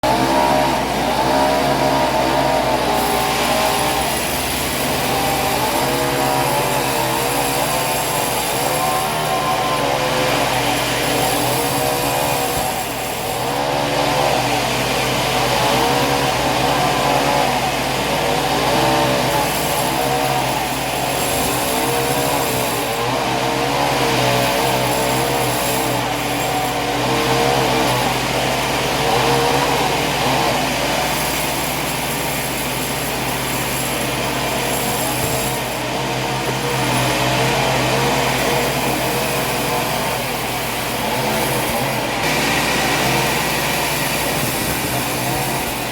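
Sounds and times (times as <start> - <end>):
sawmill machinery running: 0.0 - 45.9.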